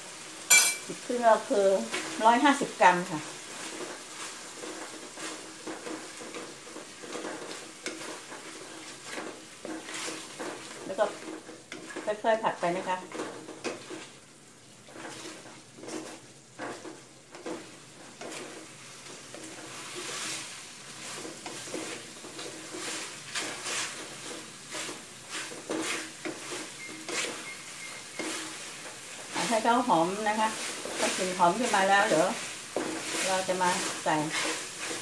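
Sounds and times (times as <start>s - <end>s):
frying sizzle: 0.0s - 35.0s
wooden spatula scraping metal pot: 0.8s - 14.2s, 14.8s - 35.0s.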